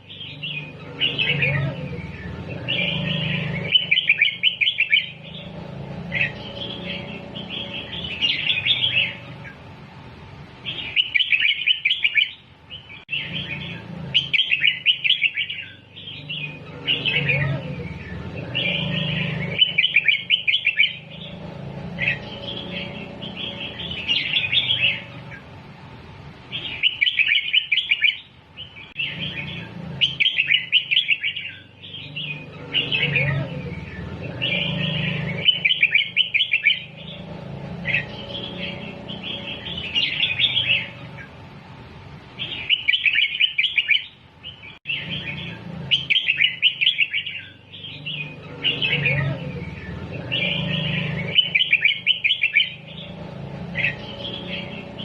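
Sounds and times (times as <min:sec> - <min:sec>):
bird singing warbled phrases: 0:00.0 - 0:55.0.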